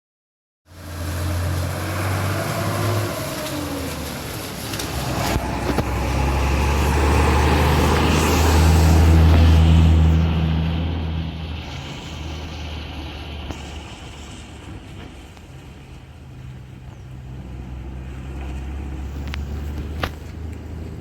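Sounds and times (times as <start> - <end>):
bus diesel engine running: 0.7 - 21.0.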